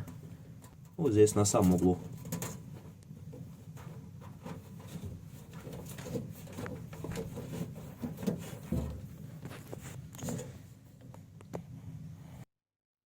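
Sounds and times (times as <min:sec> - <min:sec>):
light knocks and rustles: 0:00.0 - 0:11.6.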